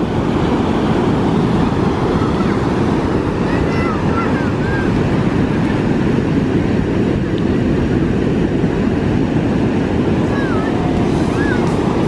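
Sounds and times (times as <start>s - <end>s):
breaking surf: 0.0s - 12.0s
wind buffeting microphone: 0.0s - 12.0s.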